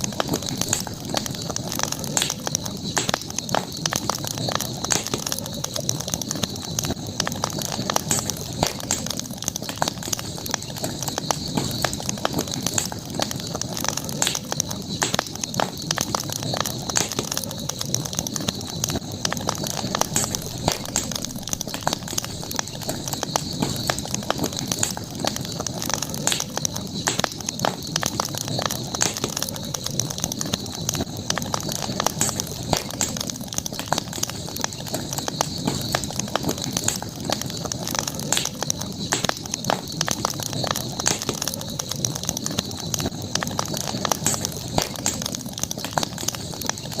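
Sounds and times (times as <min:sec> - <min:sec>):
campfire crackling and popping: 0:00.0 - 0:47.0
high hiss of night ambience: 0:00.0 - 0:47.0.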